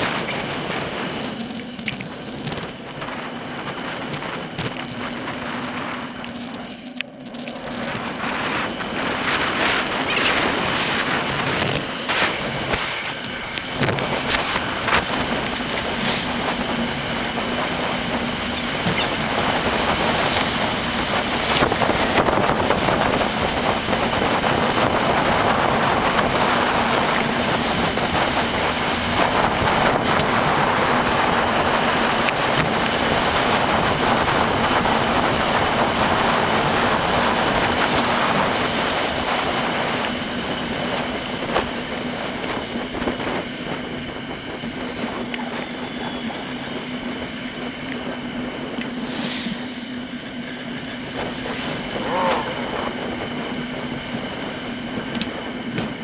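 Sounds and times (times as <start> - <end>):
bicycle tyre and road noise: 0.0 - 56.0
wind buffeting microphone: 0.0 - 56.0.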